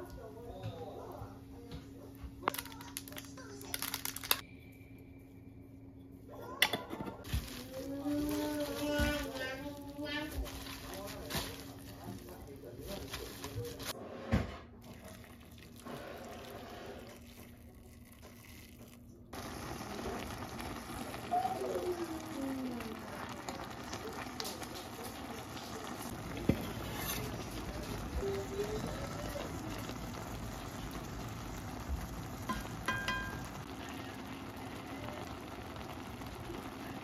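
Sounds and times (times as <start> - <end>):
broth simmering and bubbling: 7.2 - 37.0.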